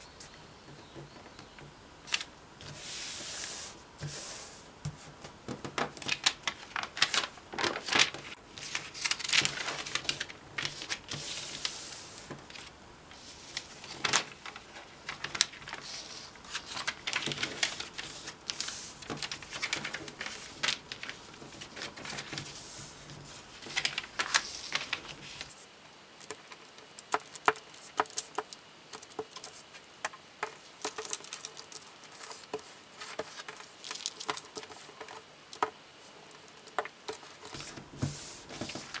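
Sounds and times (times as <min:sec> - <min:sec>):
paper rustling and crinkling: 0:04.9 - 0:39.0
paper crackles and clicks: 0:05.6 - 0:12.7, 0:13.5 - 0:39.0.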